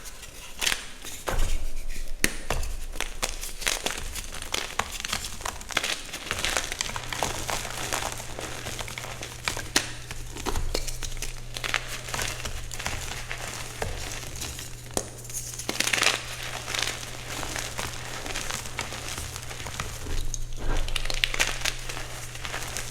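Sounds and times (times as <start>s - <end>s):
chalk crunching and crackling: 0.0s - 22.9s
low steady hum: 1.5s - 22.9s.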